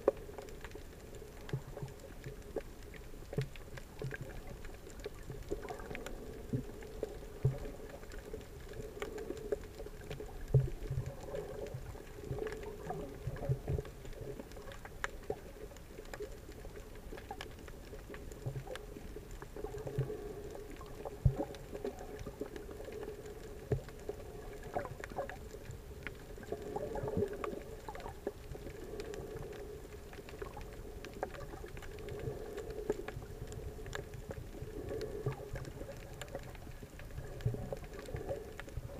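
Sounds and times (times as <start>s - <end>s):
muffled underwater hum: 0.0s - 38.9s.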